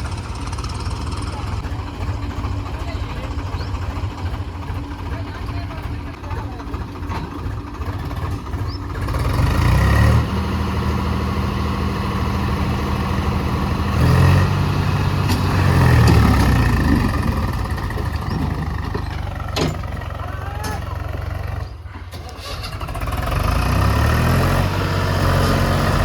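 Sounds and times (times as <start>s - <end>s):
tractor diesel engine revving: 0.0s - 26.0s.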